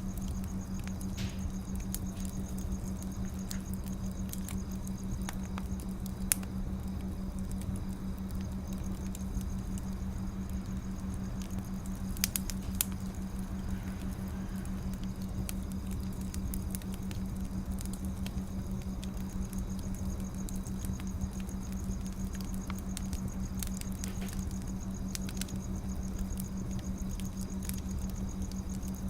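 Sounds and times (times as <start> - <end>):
firewood crackling and popping: 0.0 - 29.0
steady low hum: 0.0 - 29.0.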